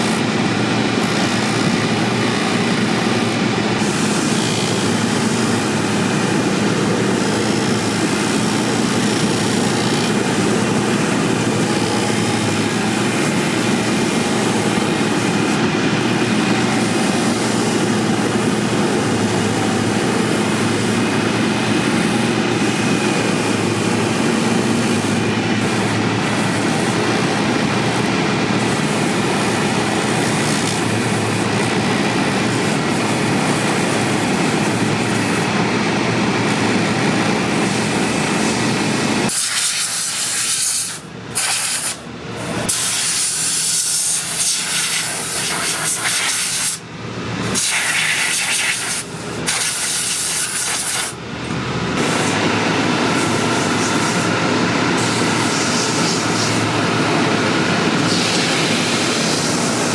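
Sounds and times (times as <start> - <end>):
machine running steadily: 0.0 - 59.9.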